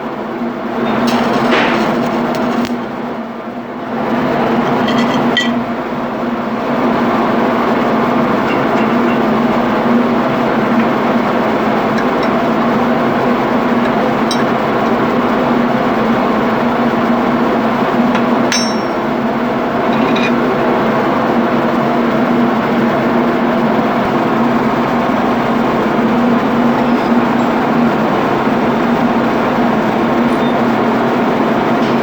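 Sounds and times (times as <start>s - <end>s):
engine room machinery drone: 0.0s - 32.0s.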